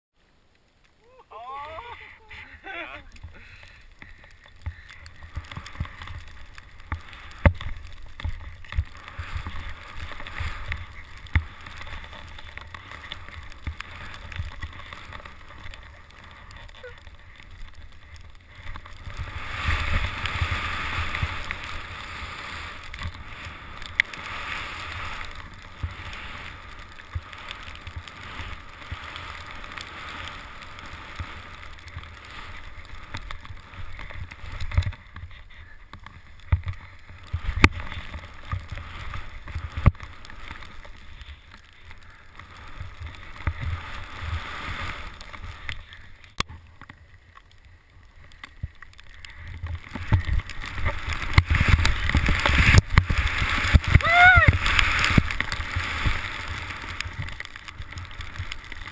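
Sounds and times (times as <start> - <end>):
skis rushing through powder snow: 1.0 - 58.9.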